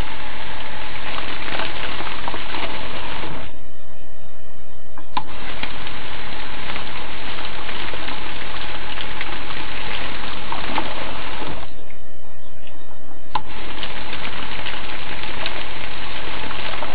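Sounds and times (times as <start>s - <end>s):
liquid pouring from spout: 0.0s - 3.5s, 5.2s - 11.8s, 13.4s - 16.9s.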